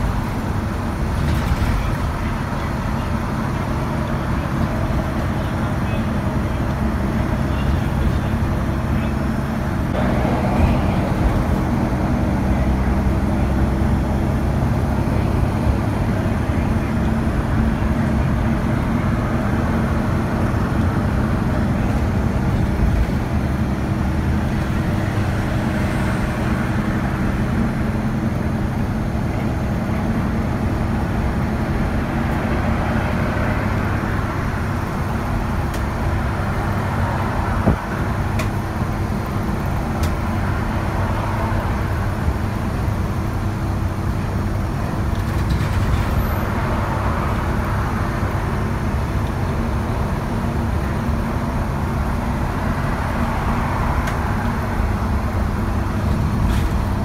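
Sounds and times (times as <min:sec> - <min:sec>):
bus engine hum and road noise: 0:00.0 - 0:57.0.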